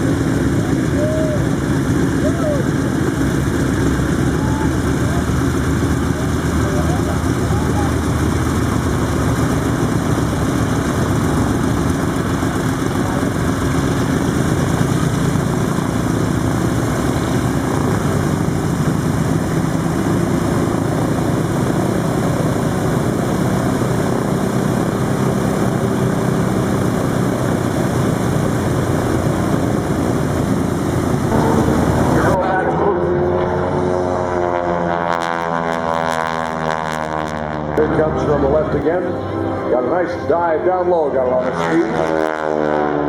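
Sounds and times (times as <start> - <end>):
propeller airplane engine droning: 0.0 - 43.0.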